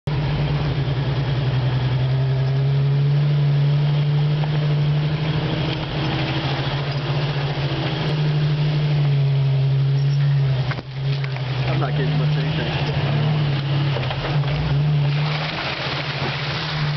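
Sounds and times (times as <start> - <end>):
car engine droning: 0.0 - 16.9.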